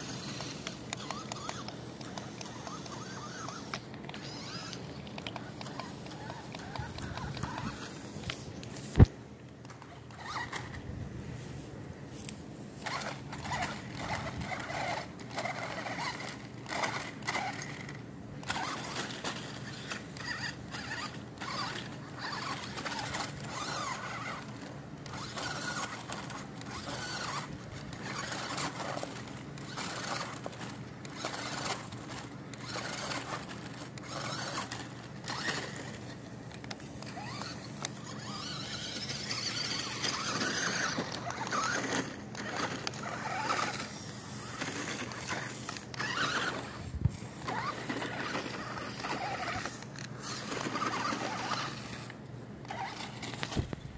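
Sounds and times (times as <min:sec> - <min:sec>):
electric motor and gears whirring: 0:00.0 - 0:53.9.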